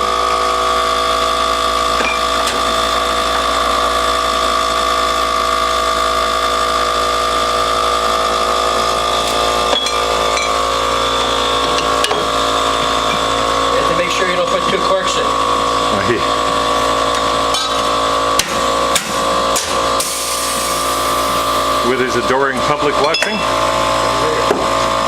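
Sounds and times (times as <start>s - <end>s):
electric pump whining hum: 0.0s - 25.0s.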